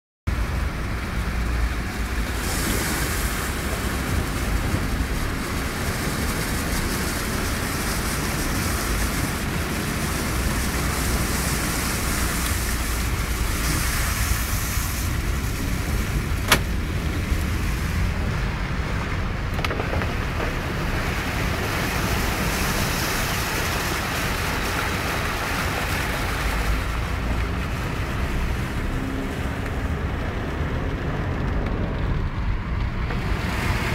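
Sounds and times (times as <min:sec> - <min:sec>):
floodwater rushing: 0:00.3 - 0:33.9.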